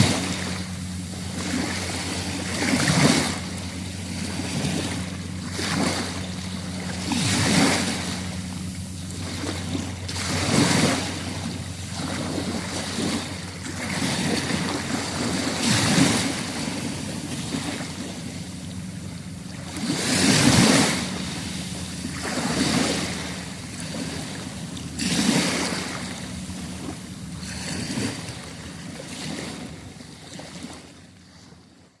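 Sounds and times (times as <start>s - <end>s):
sea waves washing ashore: 0.0s - 32.0s.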